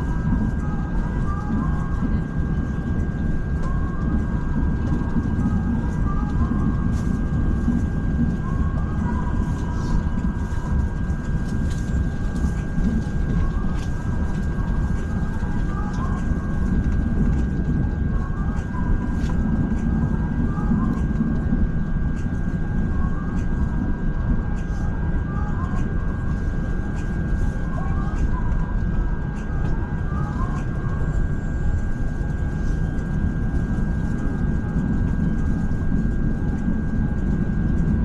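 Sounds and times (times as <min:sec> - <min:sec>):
high-pitched whine: 0:00.0 - 0:38.0.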